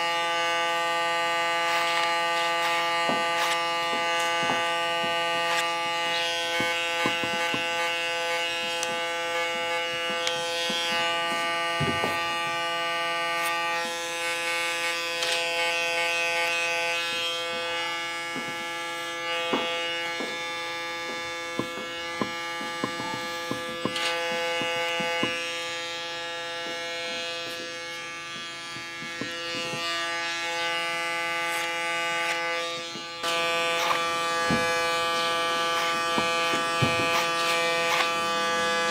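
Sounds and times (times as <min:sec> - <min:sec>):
electric hair clipper buzzing: 0:00.0 - 0:38.9.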